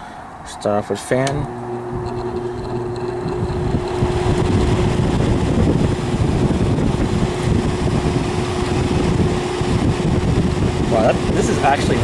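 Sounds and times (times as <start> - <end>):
air conditioner fan humming: 0.0 - 12.0
air conditioner vibrating: 0.4 - 12.0
rushing air rumble: 1.5 - 12.0.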